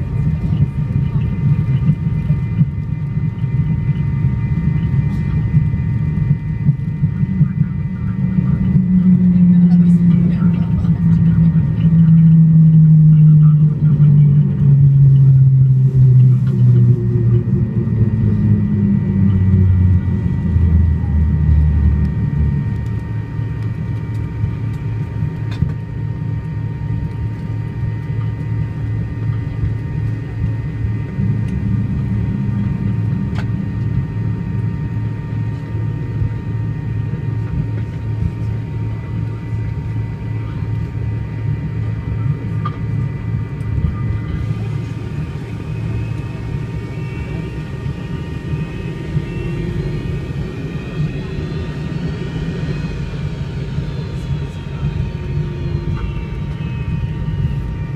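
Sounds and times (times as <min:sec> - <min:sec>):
jet engines droning: 0:00.0 - 0:57.9.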